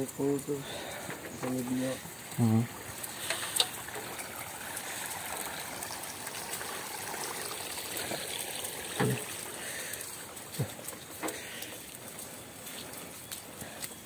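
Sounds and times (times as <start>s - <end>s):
stream water flowing: 0.5s - 14.0s.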